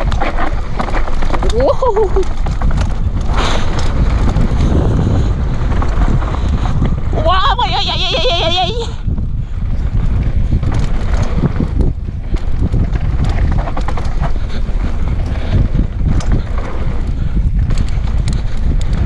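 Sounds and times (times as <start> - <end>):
bike rattles and knocks: 0.0 - 19.0
wind buffeting microphone: 0.0 - 19.0.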